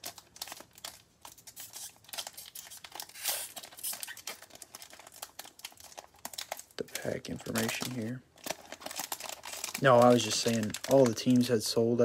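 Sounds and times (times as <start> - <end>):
cellophane wrapper crinkling: 0.0 - 11.8.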